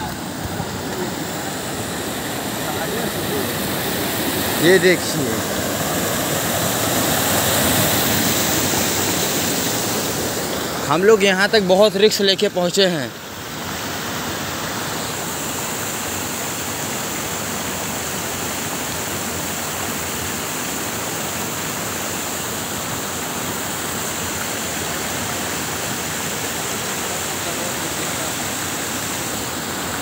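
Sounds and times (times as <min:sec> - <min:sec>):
stream running over rocks: 0:00.0 - 0:30.0
waterfall rushing: 0:00.0 - 0:30.0.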